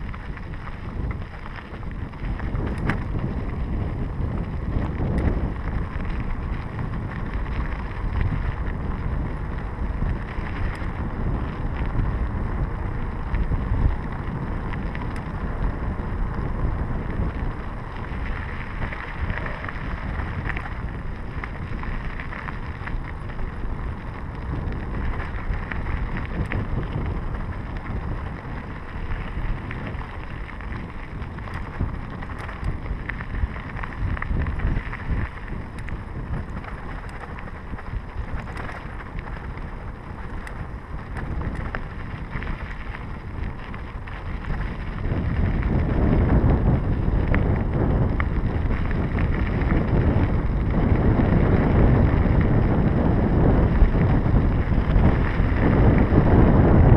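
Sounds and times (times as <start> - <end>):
bike clicks and rattles: 0.0 - 56.9
bike tyres rolling on dirt: 0.0 - 56.9
wind buffeting microphone: 0.0 - 56.9.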